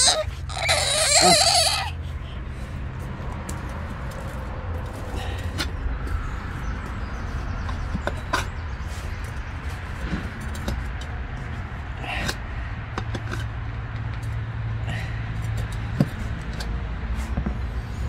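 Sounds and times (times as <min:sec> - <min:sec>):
steady low rumble: 0:01.9 - 0:18.0.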